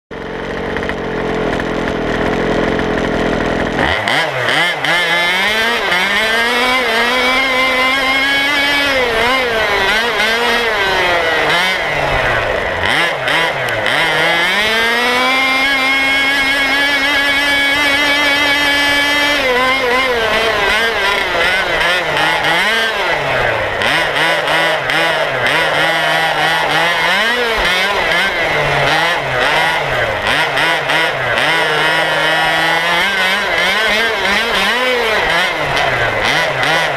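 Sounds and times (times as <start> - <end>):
two-stroke engine idling and revving: 0.1 - 36.9.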